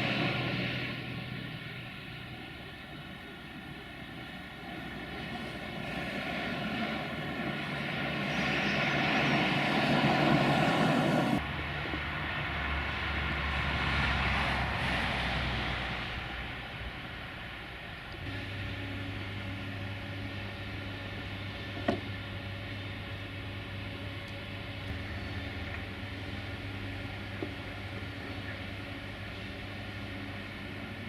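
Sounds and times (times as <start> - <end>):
electric locomotive hum and whine: 0.0 - 31.0.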